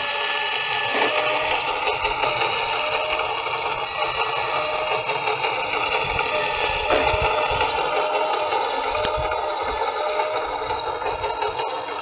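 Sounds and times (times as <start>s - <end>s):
high-pitched electric drive whine: 0.0s - 12.0s.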